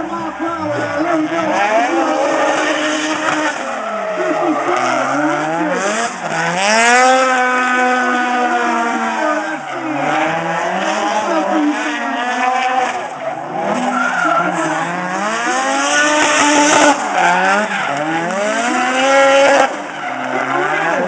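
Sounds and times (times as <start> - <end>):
car engine revving: 0.0 - 21.0
tires squealing: 0.0 - 21.0.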